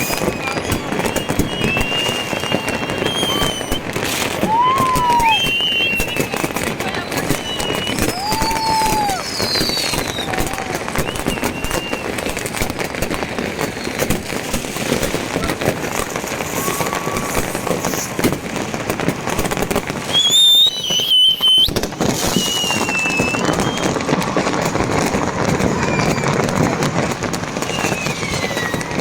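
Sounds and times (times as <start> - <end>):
shrill firework whistle: 0.0 - 18.4, 19.3 - 29.0
fireworks crackling and banging: 0.0 - 29.0.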